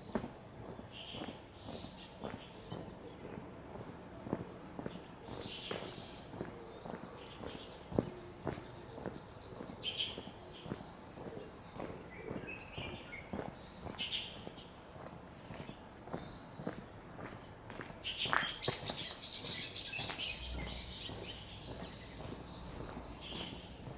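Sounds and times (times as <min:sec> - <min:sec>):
birds chirping: 0:00.0 - 0:23.9
footsteps walking: 0:00.1 - 0:23.9.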